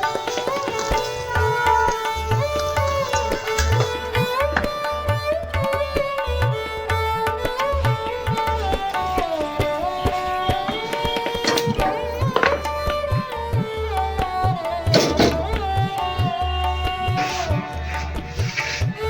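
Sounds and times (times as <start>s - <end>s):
sitar-like melody: 0.0s - 19.0s
tabla rhythm: 0.0s - 19.0s.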